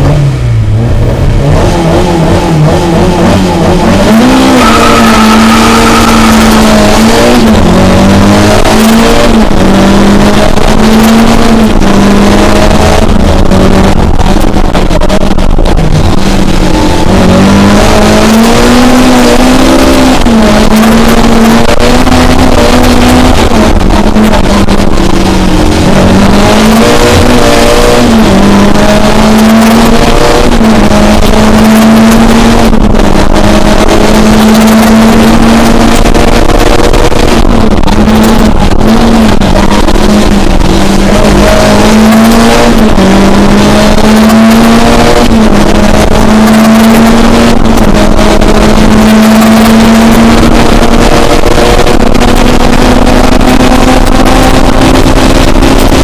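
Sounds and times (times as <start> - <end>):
car engine at high revs: 0.0 - 56.0.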